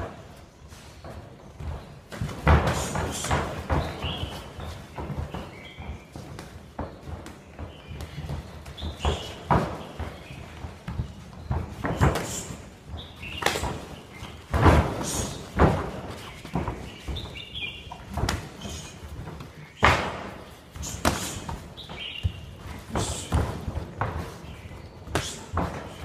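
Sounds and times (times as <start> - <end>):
shuffling footsteps on canvas: 0.0 - 26.0
punches and kicks hitting gloves: 1.4 - 26.0.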